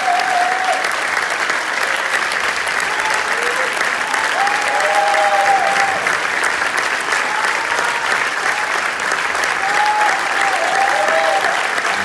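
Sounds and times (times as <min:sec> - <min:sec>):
audience applauding: 0:00.0 - 0:12.0
people cheering: 0:00.0 - 0:12.0.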